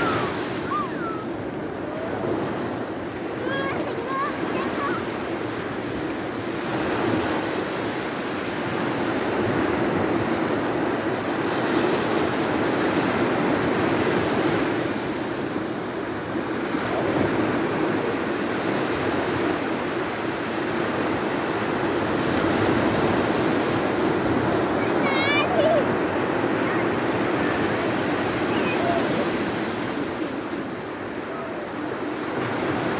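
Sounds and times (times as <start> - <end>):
waves breaking on a beach: 0.0 - 32.9.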